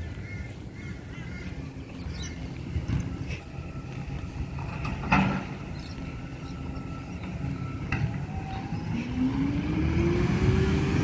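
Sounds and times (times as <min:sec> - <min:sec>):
garbage truck engine rumble: 0:00.0 - 0:11.0
rising whine: 0:01.4 - 0:11.0.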